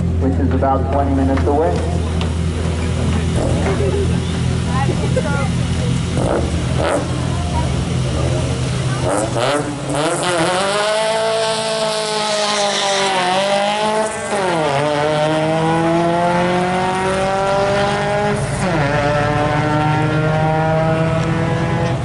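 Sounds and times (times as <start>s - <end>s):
car and motorcycle accelerating hard: 0.0s - 22.0s.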